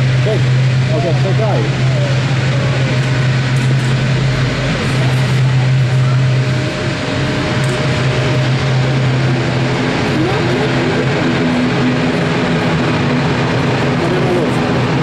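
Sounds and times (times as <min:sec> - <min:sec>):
jet airliner engines running: 0:00.0 - 0:15.0.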